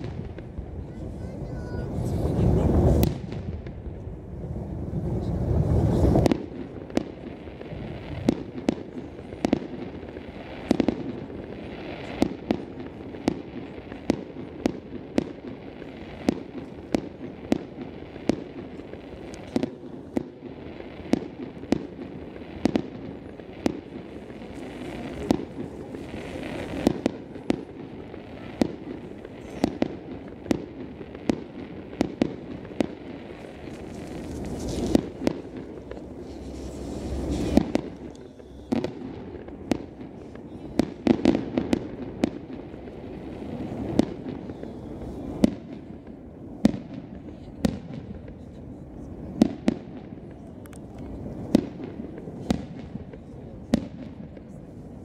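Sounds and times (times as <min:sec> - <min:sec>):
fireworks sharp bangs: 0:00.0 - 0:55.0.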